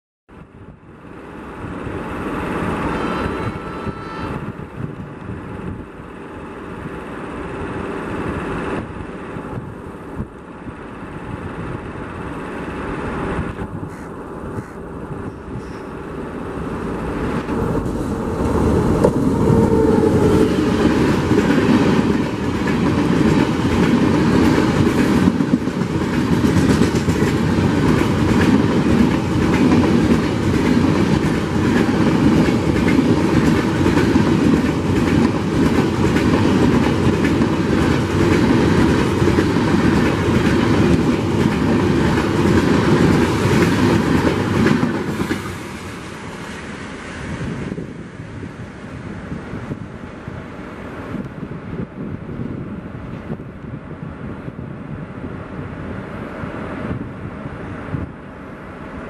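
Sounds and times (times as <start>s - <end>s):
train passing at speed: 0.3s - 59.0s.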